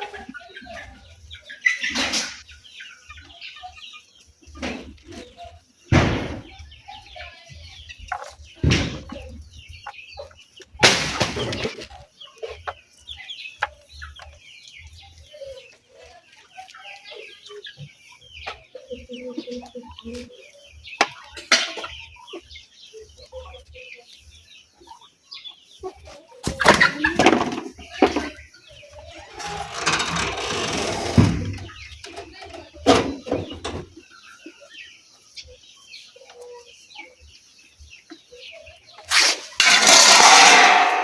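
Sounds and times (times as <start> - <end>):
chickens clucking and chirping: 0.0 - 39.6.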